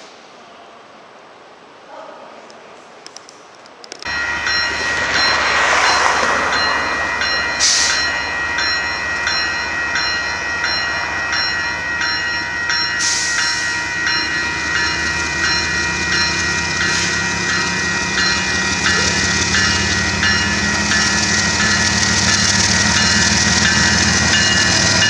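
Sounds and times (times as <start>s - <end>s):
crossing warning bell ringing: 4.1s - 25.0s
diesel locomotive rumble: 4.1s - 25.0s.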